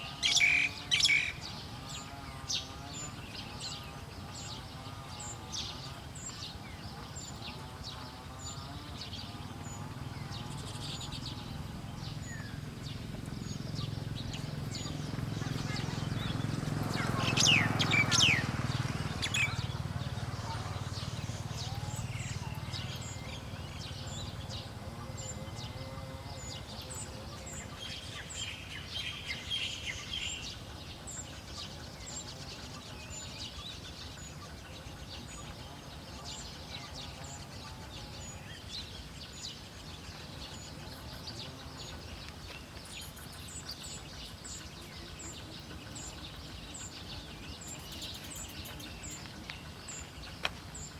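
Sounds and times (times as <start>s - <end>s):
bird buzzy chatter: 0.0s - 50.9s.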